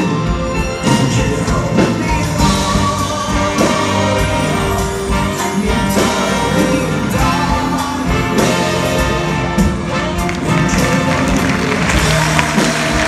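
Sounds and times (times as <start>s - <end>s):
music with held notes: 0.0s - 13.0s.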